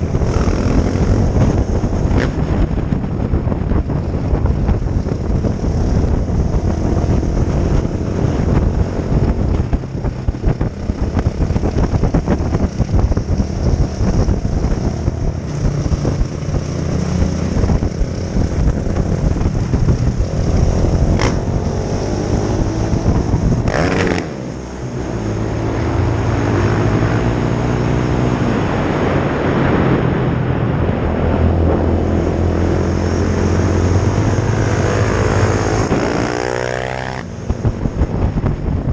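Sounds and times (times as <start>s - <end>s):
dirt bike engine running hard: 0.0s - 27.8s, 30.6s - 38.9s.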